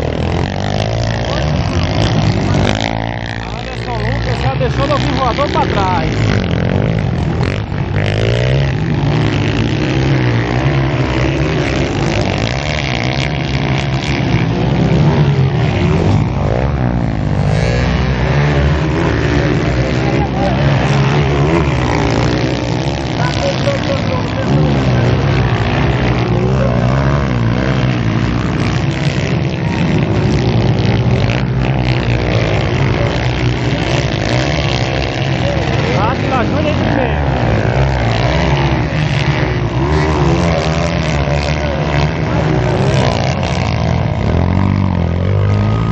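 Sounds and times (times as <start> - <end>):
motorcycle engines revving: 0.0 - 45.9
noisy rumble: 0.0 - 45.9
steady low drone: 0.0 - 45.9.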